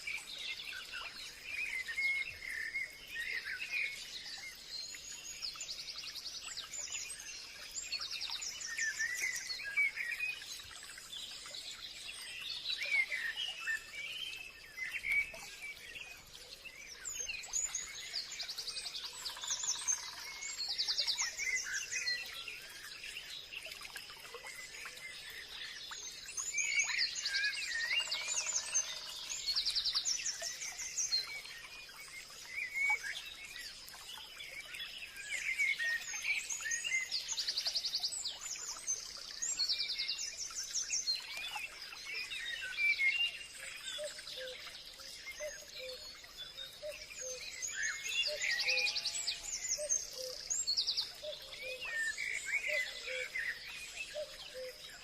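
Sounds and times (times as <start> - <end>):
bird song with rapid high trills: 0.0 - 55.0.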